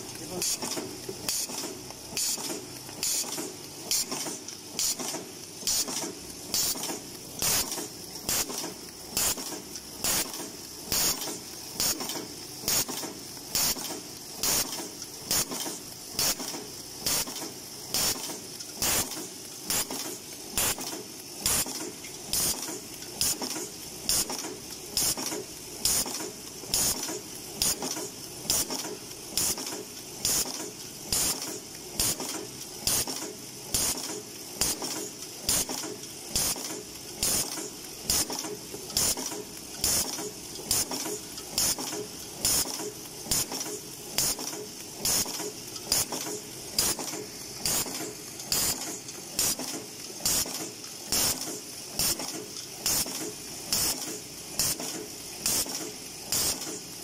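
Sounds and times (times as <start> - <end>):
machine rattling and humming: 0.0 - 57.0.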